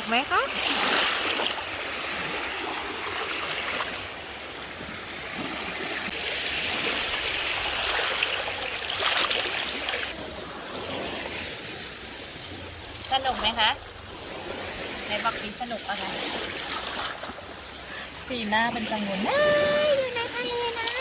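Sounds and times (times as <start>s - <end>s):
shallow seawater washing and splashing: 0.0s - 21.0s.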